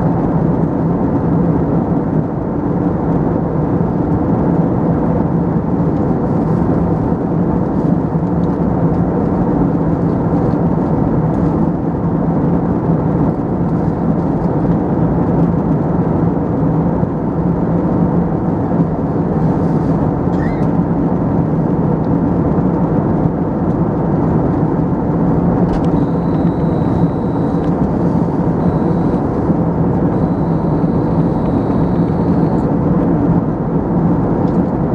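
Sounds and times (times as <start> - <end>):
airflow and jet engine rush: 0.0 - 34.9
constant low hum: 0.0 - 34.9.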